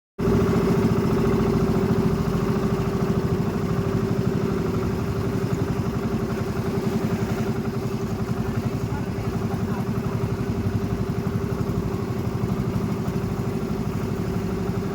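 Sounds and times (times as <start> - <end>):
small engine running: 0.2 - 14.9.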